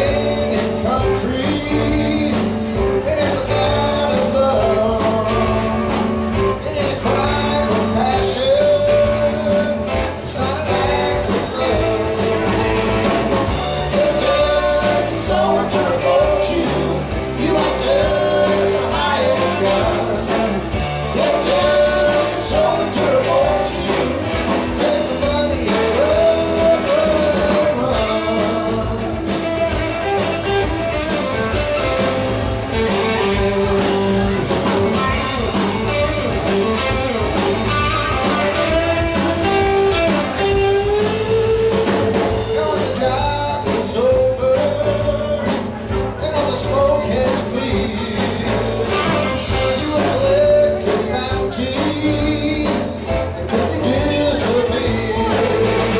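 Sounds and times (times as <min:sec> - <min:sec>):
drum kit: 0:00.0 - 0:55.9
electric bass: 0:00.0 - 0:55.9
electric guitar: 0:00.0 - 0:55.9
man singing: 0:00.0 - 0:55.9.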